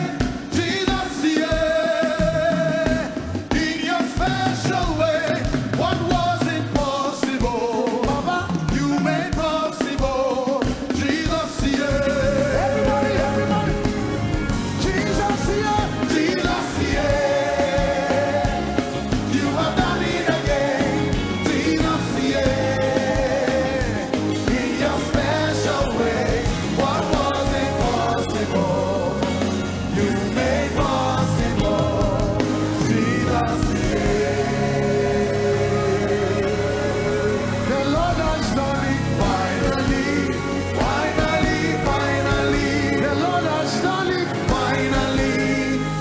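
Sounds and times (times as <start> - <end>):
full band playing: 0.0 - 46.0
people singing: 0.0 - 46.0.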